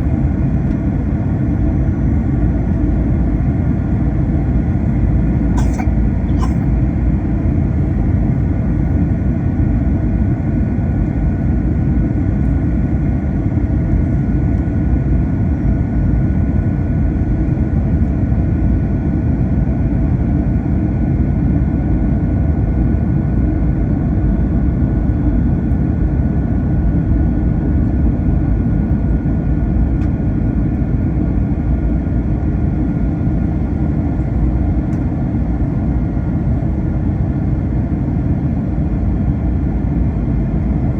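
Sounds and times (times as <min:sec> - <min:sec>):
airliner cabin rumble: 0:00.0 - 0:19.4, 0:24.0 - 0:40.9.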